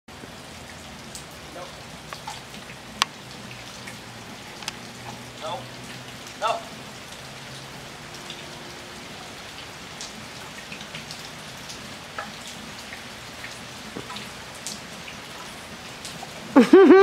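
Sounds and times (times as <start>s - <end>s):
steady rain: 0.1s - 17.0s
raindrops ticking: 0.2s - 17.0s.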